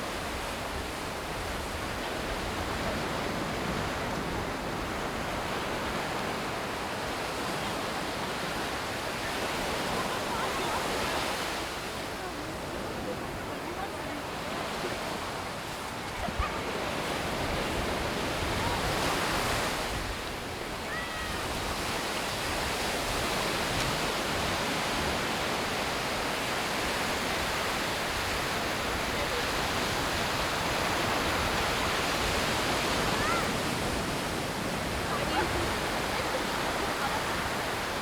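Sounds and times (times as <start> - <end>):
waves breaking on beach: 0.0 - 38.0.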